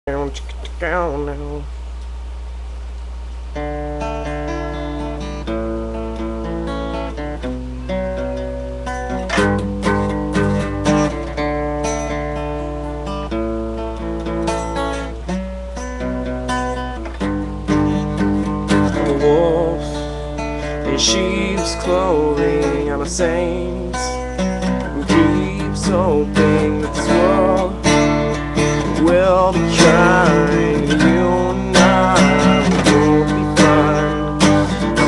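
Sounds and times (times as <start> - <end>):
low electrical hum: 0.0 - 35.0
acoustic guitar chords: 0.1 - 35.0.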